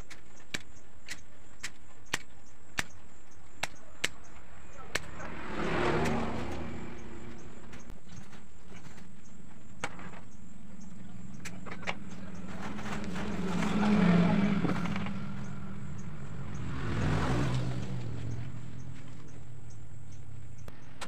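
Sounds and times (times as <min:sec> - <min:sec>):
vehicles passing by: 0:00.3 - 0:09.4, 0:10.1 - 0:21.0.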